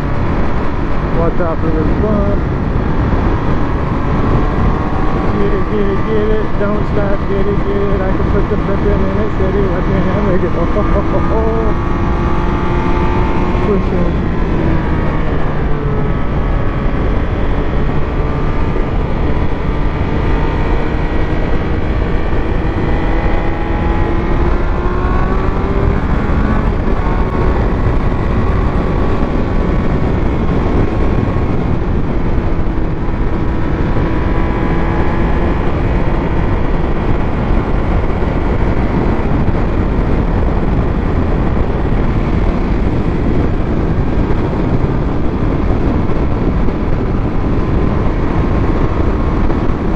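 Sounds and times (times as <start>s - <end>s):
motorcycle engine at speed: 0.0s - 49.9s
wind rush on microphone: 0.0s - 49.9s.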